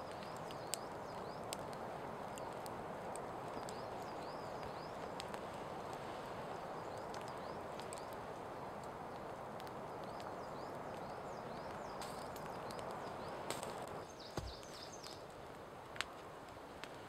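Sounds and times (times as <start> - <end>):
campfire crackle: 0.0 - 17.0
steady hiss: 0.0 - 17.0.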